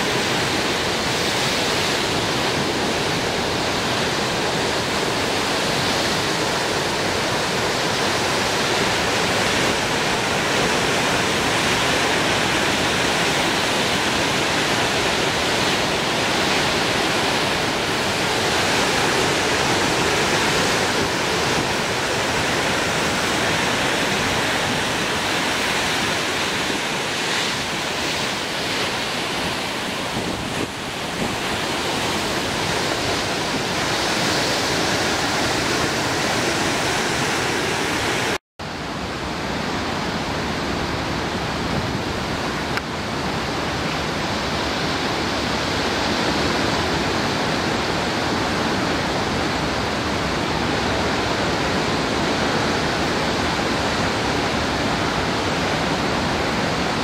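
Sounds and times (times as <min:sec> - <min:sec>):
surf: 0:00.0 - 0:57.0
wind: 0:00.0 - 0:57.0.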